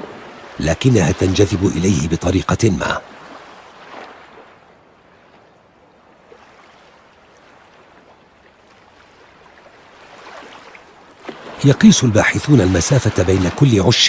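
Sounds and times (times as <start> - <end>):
small waves on sandy beach: 0.0 - 14.0.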